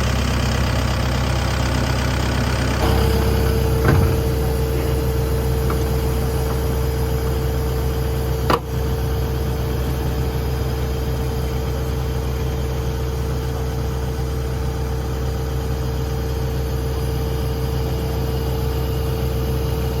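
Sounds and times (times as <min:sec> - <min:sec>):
excavator diesel engine idling: 0:00.0 - 0:20.0.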